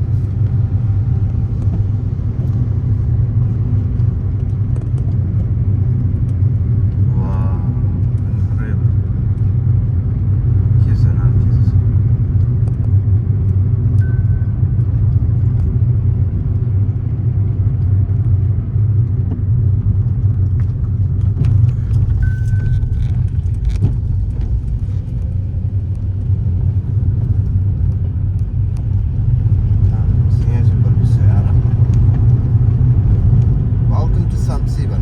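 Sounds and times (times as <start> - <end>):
vehicle road and engine rumble: 0.0 - 35.0.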